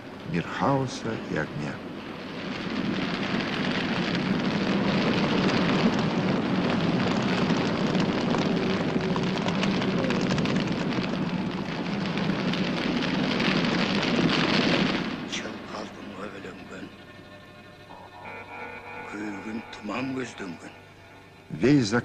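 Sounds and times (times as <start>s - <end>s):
large fire crackling: 0.0s - 22.0s.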